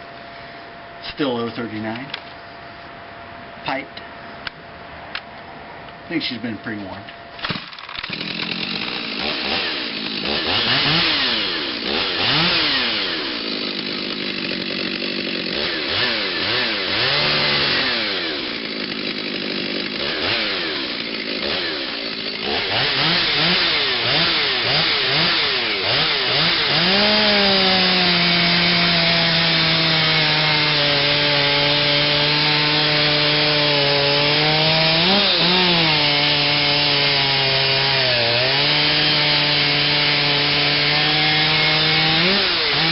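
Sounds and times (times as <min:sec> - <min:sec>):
chainsaw revving and cutting wood: 0:07.4 - 0:42.9.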